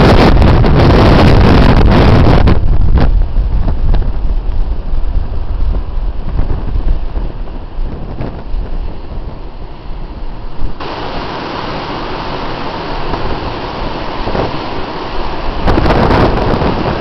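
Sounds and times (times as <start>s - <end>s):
sea noise: 0.0s - 17.0s
wind buffeting microphone: 0.0s - 17.0s.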